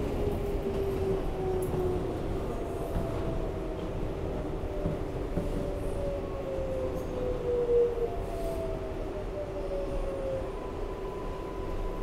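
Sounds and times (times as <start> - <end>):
subway car rumbling: 0.0 - 12.0.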